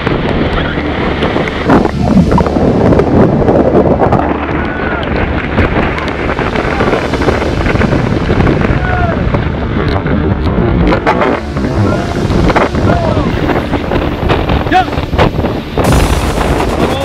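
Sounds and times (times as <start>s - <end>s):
storm surf breaking: 0.0s - 17.0s
wind buffeting microphone: 0.0s - 17.0s.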